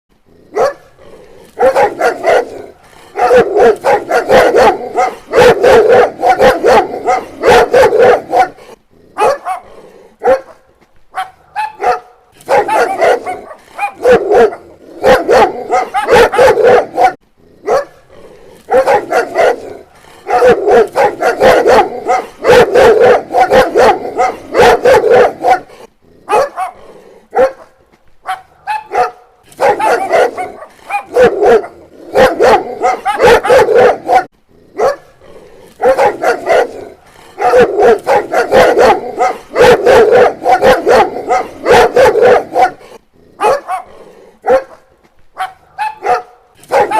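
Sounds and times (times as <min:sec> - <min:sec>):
dog barking: 0:00.5 - 0:00.9, 0:01.6 - 0:18.0, 0:18.7 - 0:35.2, 0:35.8 - 0:46.9.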